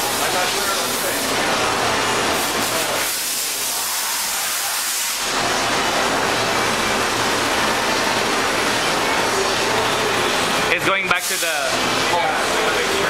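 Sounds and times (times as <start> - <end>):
machining center hissing and humming: 0.0 - 13.0.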